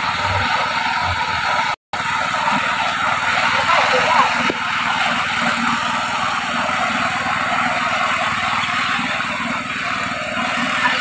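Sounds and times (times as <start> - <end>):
cement mixer engine running: 0.0 - 11.0.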